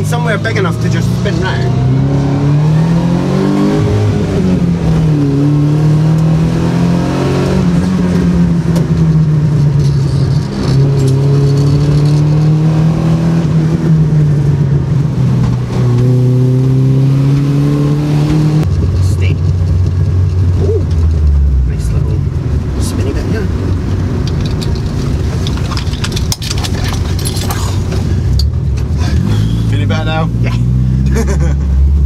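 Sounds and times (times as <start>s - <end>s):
car engine and exhaust: 0.0s - 32.0s.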